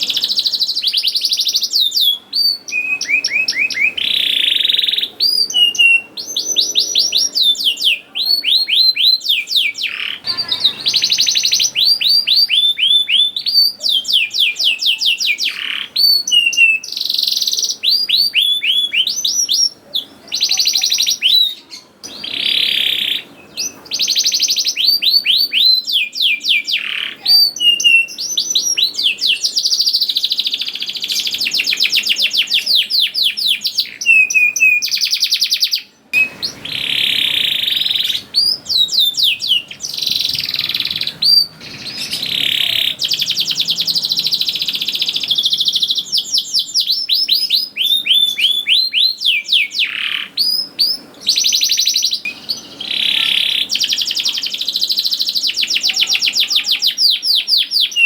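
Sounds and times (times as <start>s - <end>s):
canary singing in trills: 0.0s - 58.0s.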